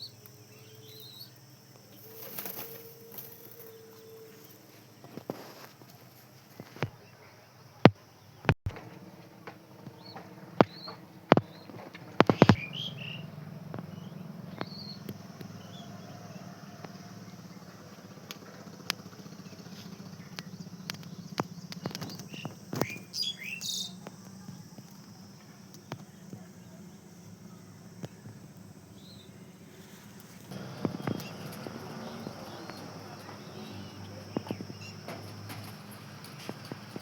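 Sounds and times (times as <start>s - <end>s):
birds chirping: 0.0s - 37.0s
steady low hum: 0.0s - 37.0s.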